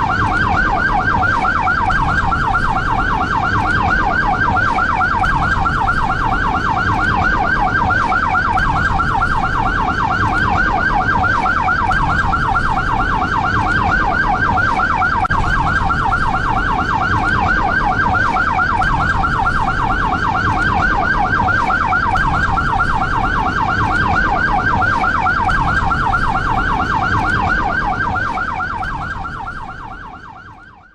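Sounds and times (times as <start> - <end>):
ambulance siren yelping: 0.0 - 30.9.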